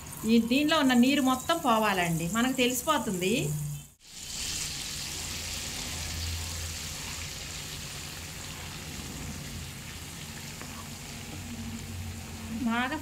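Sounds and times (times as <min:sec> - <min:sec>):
paste sizzling in hot oil: 0:00.0 - 0:12.8.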